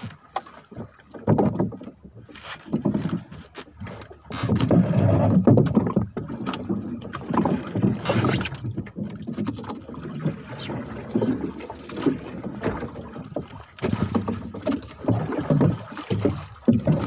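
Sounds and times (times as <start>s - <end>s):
knocks and scrapes on wooden boat: 0.0s - 17.0s.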